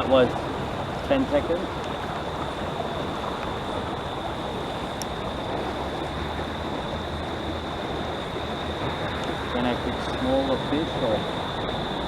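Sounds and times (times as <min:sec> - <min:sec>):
faint high-pitched whine: 0:00.0 - 0:12.0
outdoor background noise: 0:00.0 - 0:12.0.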